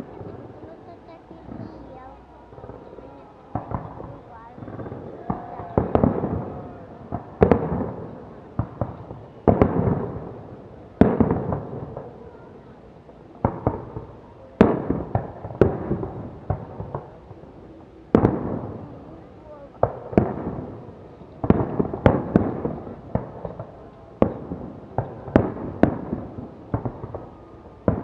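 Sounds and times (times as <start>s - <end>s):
fireworks bangs with echo: 0.0s - 28.0s.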